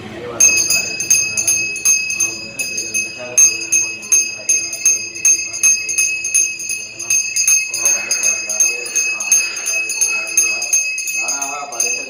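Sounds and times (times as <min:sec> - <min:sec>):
brass hand bell ringing: 0:00.4 - 0:12.0.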